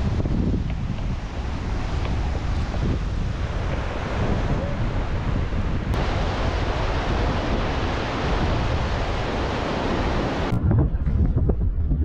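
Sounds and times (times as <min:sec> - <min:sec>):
steady rushing noise: 0:00.0 - 0:12.0
wind buffeting microphone: 0:00.0 - 0:12.0.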